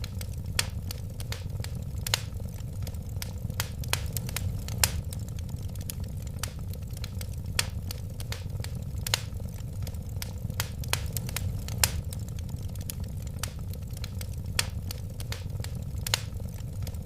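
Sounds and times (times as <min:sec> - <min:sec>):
fire flame rumble: 0:00.0 - 0:17.0
wood fire crackling and popping: 0:00.0 - 0:17.0.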